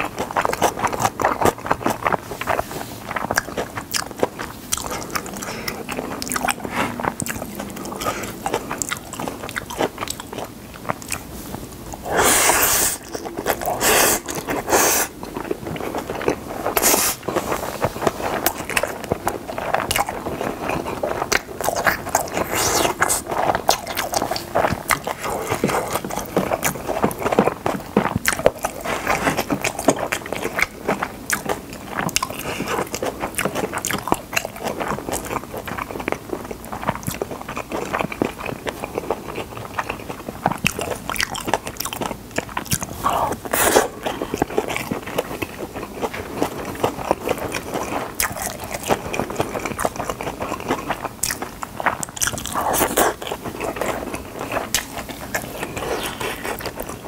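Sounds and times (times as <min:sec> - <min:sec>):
wet chewing mouth clicks: 0:00.0 - 0:57.0.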